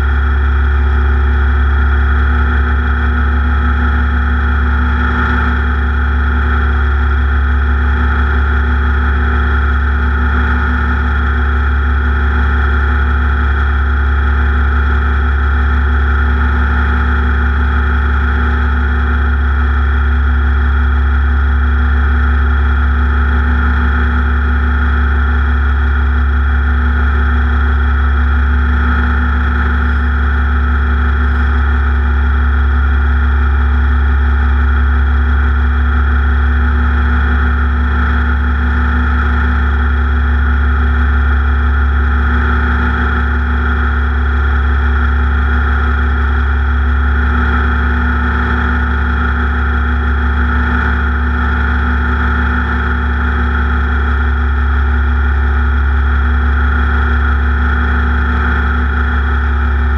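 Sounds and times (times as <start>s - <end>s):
race engine running steadily: 0.0s - 59.9s.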